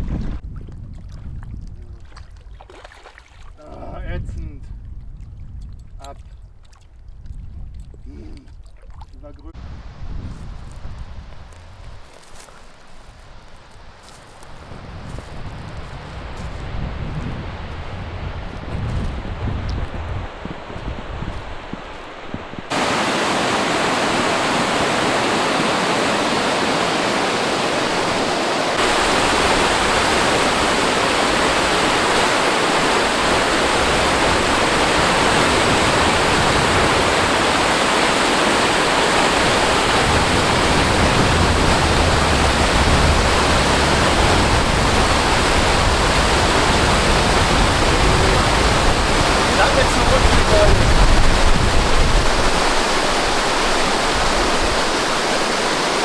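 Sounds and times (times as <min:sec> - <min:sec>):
rushing water: 0:00.4 - 0:56.0.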